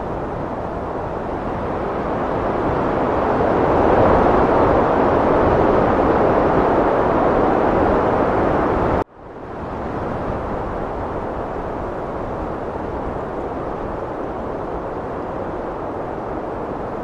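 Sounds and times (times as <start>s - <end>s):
heavy wind blowing: 0.0s - 17.0s.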